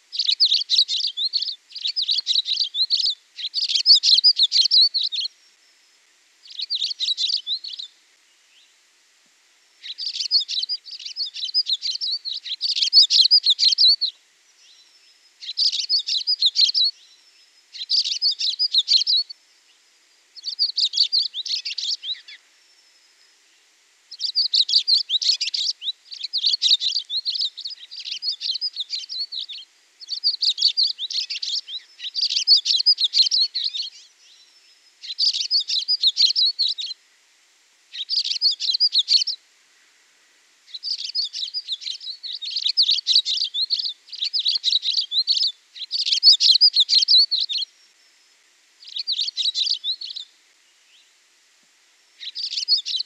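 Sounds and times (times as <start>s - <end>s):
songbird chirps and trills: 0.0s - 8.9s, 9.6s - 37.2s, 37.9s - 40.0s, 40.6s - 51.3s, 52.0s - 53.0s.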